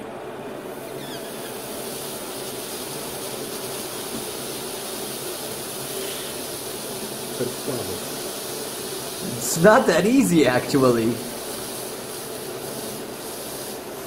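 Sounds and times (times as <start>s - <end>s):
hot knife sizzling on frozen tomato: 0.6s - 14.0s.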